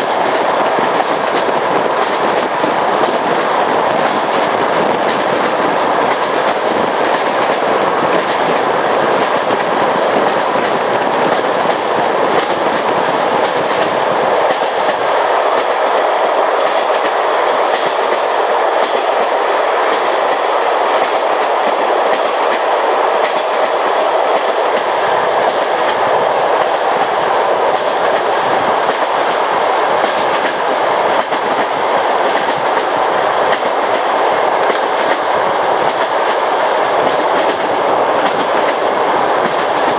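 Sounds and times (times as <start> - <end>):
train wheels rumbling on rails: 0.0 - 39.9
wheels clacking on rail joints: 0.0 - 39.9.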